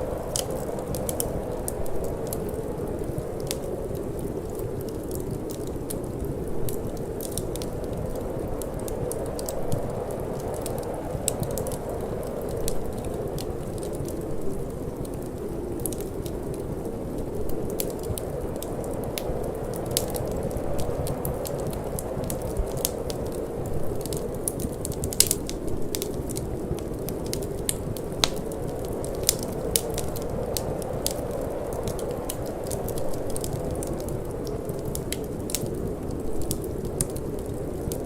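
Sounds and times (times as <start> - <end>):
low rush of wind: 0.0 - 38.0
wood fire crackling: 0.0 - 38.0.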